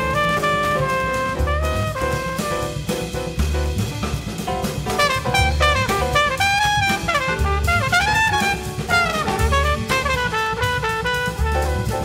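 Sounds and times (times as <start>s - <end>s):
drum kit: 0.0s - 12.0s
sliding lead melody: 0.0s - 12.0s.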